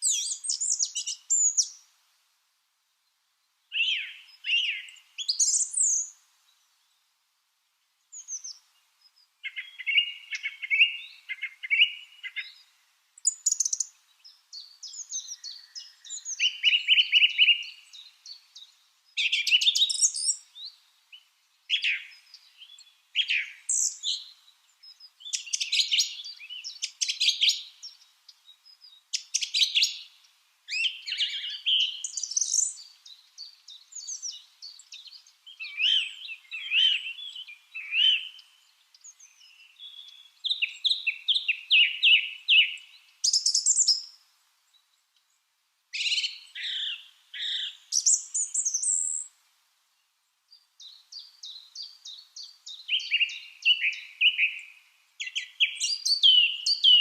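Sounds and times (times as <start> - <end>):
lovebirds chirping: 0.0 - 2.0, 3.0 - 7.2, 7.8 - 49.3, 49.9 - 57.0.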